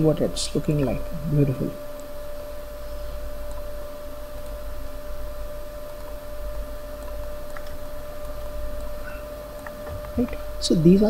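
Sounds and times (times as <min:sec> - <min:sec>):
high whine: 0:00.0 - 0:11.0
low rumble and hiss: 0:00.0 - 0:11.0.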